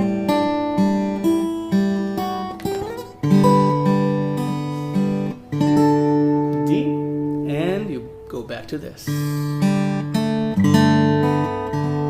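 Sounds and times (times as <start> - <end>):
acoustic guitar fingerpicking: 0.0 - 12.0.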